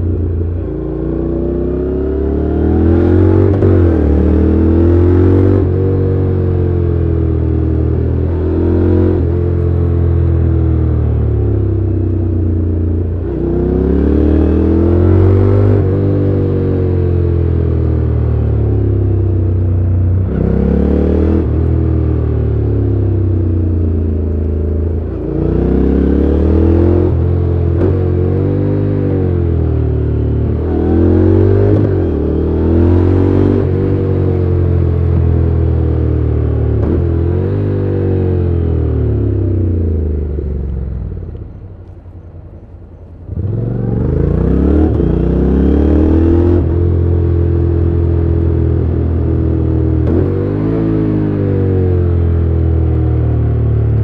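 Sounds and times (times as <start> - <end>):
motorcycle engine revving: 0.0 - 41.7, 43.2 - 54.0.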